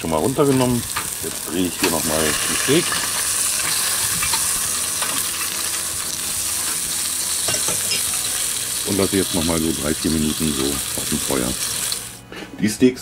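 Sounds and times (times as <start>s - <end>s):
meat sizzling on a grill: 0.0s - 12.2s.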